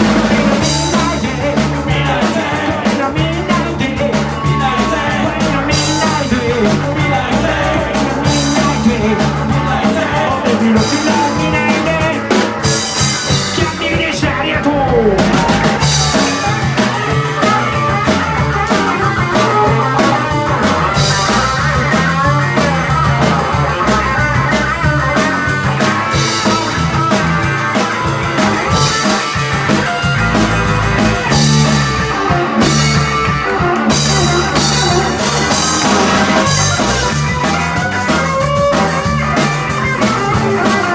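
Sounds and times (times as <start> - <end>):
drum kit: 0.0 - 40.9
electric guitar: 0.0 - 40.9
person singing: 0.0 - 40.9.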